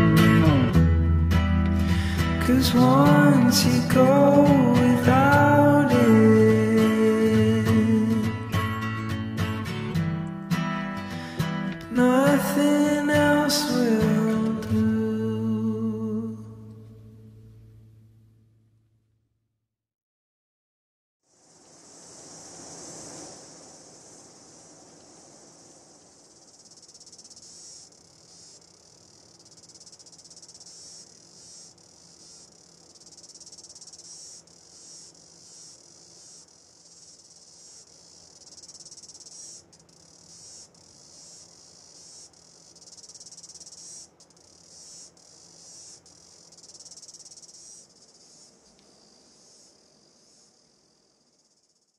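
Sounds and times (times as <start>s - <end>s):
crickets chirring: 0.0s - 17.3s, 21.2s - 51.9s.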